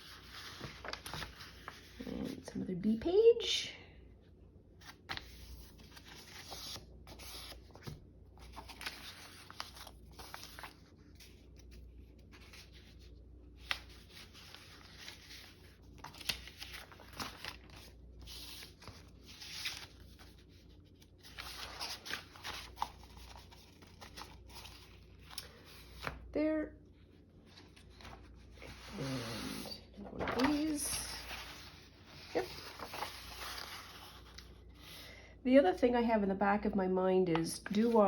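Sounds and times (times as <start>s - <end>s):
paper sheets rustling: 0.0s - 2.4s, 4.8s - 26.3s, 27.5s - 35.0s.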